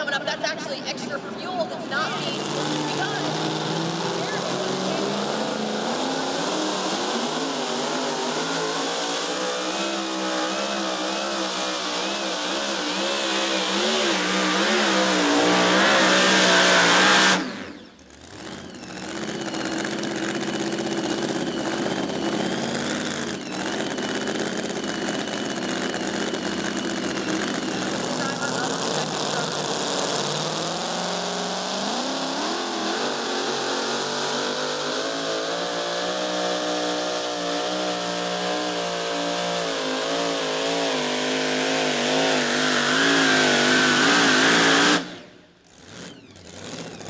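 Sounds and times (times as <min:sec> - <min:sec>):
engine running hard wavering: 0:00.0 - 0:47.0
steadier engine sound: 0:00.0 - 0:47.0.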